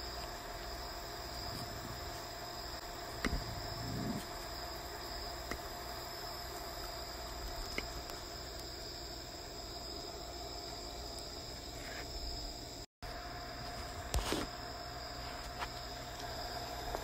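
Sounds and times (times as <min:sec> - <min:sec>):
crickets chirping: 0:00.0 - 0:17.0
low steady hum: 0:00.0 - 0:17.0.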